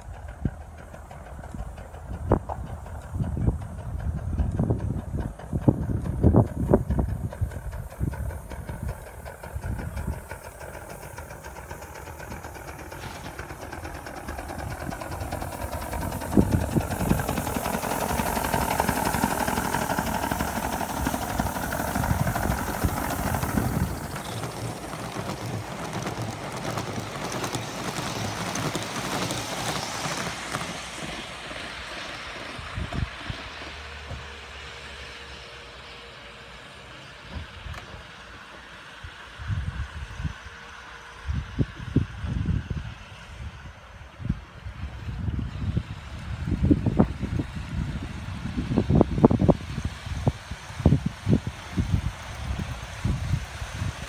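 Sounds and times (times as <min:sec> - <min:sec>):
model steam locomotive chuffing: 0:00.0 - 0:54.0.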